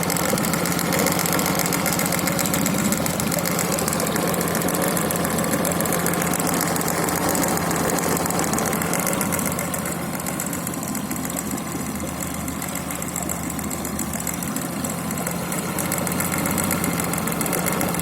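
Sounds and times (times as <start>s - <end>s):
engine idling with knock: 0.0s - 18.0s.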